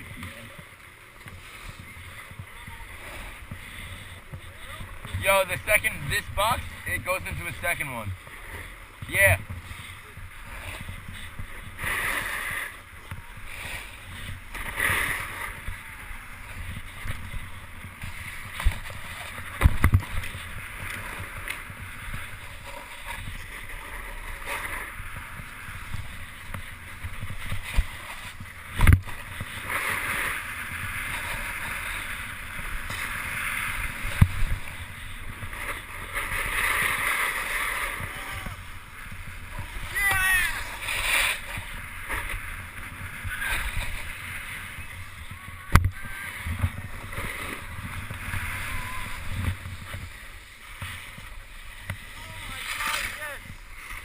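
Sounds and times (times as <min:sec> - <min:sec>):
snowboard scraping over snow: 0:00.0 - 0:54.0
wind rumbling on microphone: 0:00.0 - 0:54.0.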